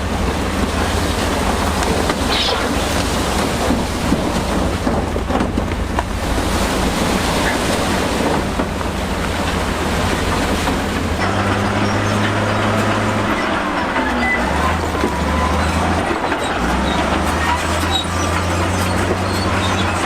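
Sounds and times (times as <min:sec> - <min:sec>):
diesel engine under load: 0:00.0 - 0:20.0.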